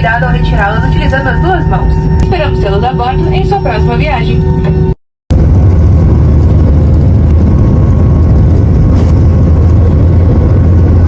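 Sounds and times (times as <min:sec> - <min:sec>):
airliner engines low rumble: 0:00.0 - 0:11.0.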